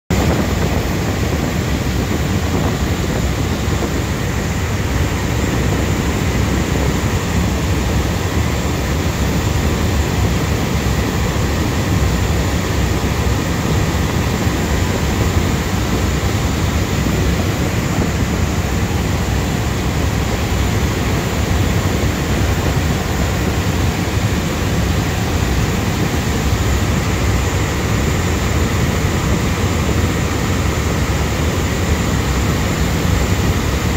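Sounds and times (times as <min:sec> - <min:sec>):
ferry engines droning: 0:00.1 - 0:33.9
water rushing past hull: 0:00.1 - 0:33.9.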